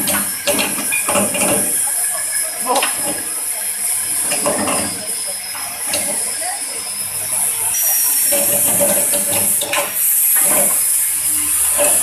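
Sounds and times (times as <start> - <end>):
coconut peeling machine hissing: 0.0 - 12.0.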